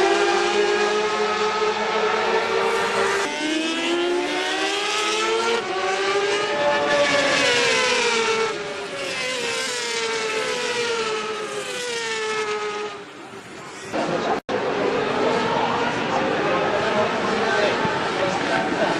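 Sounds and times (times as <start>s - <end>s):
racing motorcycle engines revving: 0.0s - 18.9s.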